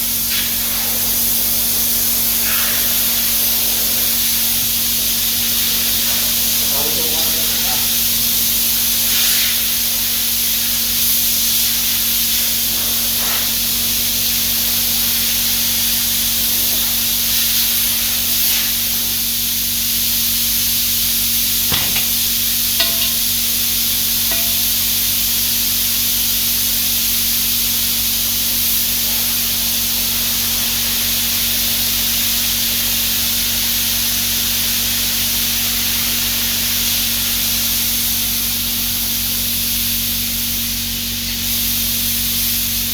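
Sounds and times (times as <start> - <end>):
espresso machine hissing: 0.0 - 39.5.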